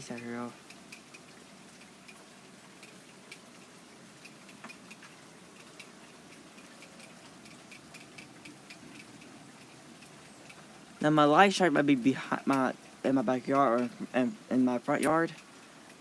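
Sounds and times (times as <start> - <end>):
drips ticking on hard surfaces: 0.0 - 16.0
rain hissing: 0.0 - 16.0.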